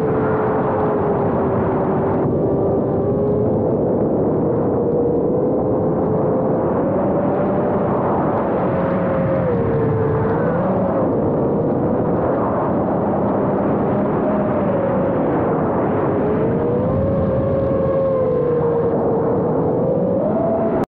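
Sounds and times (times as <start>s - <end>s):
drone motors and propellers whining: 0.0s - 20.9s
wind noise: 0.0s - 20.9s.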